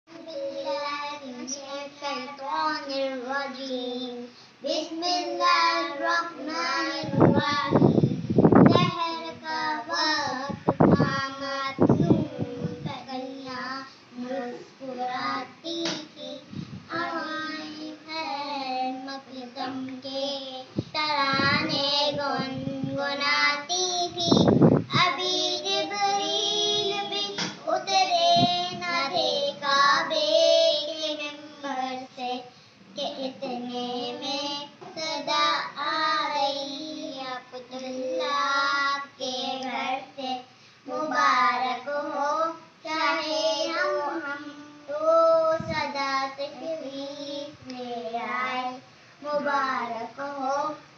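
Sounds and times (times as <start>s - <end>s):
girls singing in unison: 0.1s - 50.9s.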